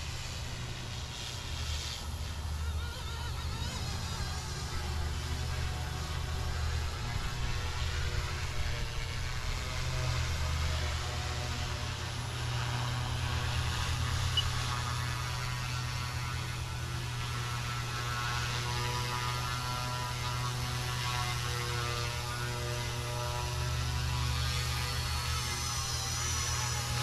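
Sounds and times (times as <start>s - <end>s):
rc helicopter rotor hum: 0.0s - 27.0s
thin motor whine: 0.0s - 27.0s.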